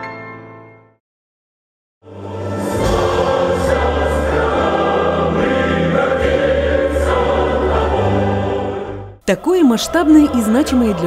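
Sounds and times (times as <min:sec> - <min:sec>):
choir singing: 0:02.0 - 0:11.0
orchestral chords: 0:02.1 - 0:11.0.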